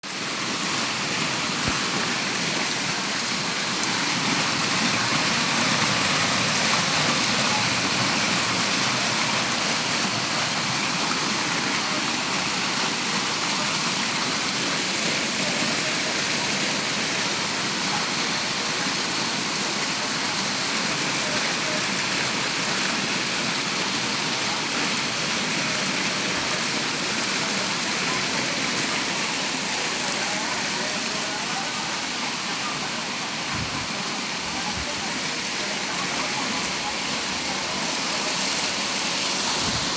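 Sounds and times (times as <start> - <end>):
heavy rain: 0.0 - 39.9
running water: 0.0 - 39.9.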